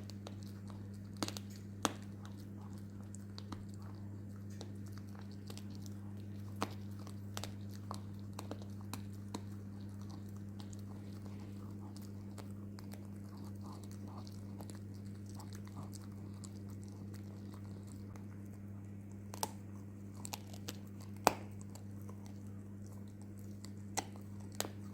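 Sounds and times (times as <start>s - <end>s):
dog chewing and crunching food: 0.0s - 24.9s
low electrical hum: 0.0s - 24.9s.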